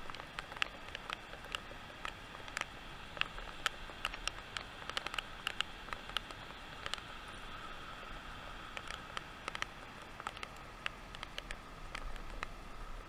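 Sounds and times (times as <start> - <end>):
sharp clicks and ticks: 0.0 - 7.4, 8.7 - 12.6.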